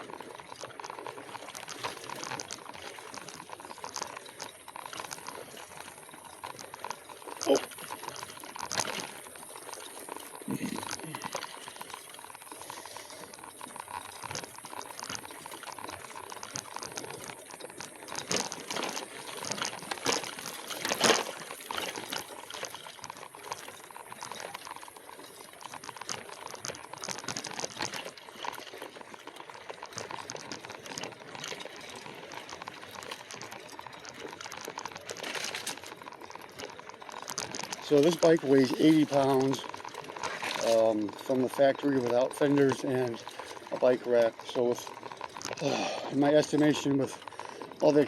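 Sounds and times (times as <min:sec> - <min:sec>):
bike rattles and knocks: 0:00.0 - 0:48.0
tyres crackling over twigs: 0:00.0 - 0:48.0.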